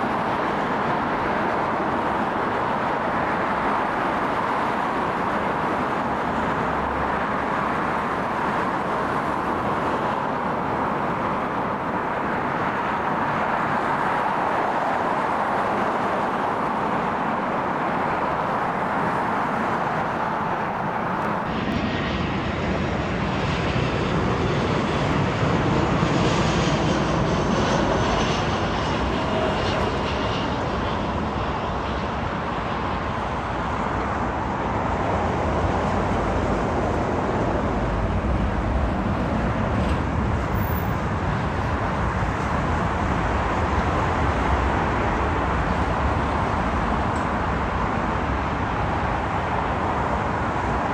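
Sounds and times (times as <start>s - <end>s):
airliner engines running: 0.0s - 50.9s.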